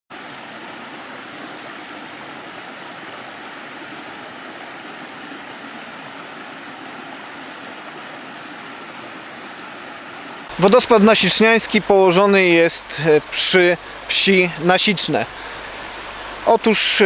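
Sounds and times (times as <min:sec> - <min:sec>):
waterfall rushing into pool: 0:00.1 - 0:17.0.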